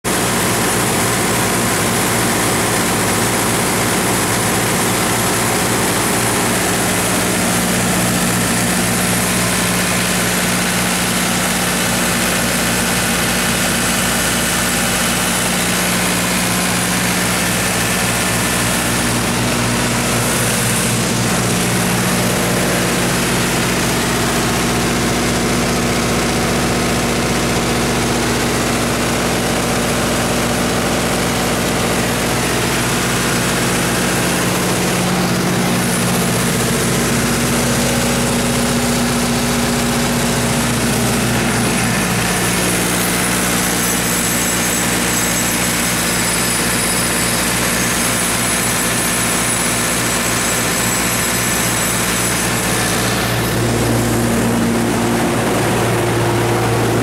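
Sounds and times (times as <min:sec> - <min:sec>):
diesel generator engine drone: 0:00.0 - 0:57.0.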